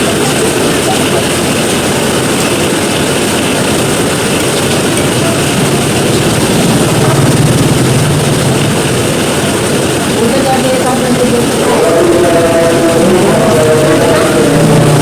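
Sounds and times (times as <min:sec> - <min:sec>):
heavy rain: 0:00.0 - 0:15.0
low engine rumble: 0:00.0 - 0:15.0
passing traffic: 0:00.0 - 0:15.0.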